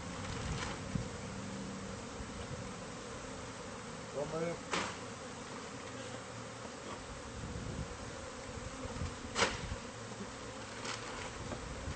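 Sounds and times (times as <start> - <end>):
honeybees buzzing: 0.0 - 11.9.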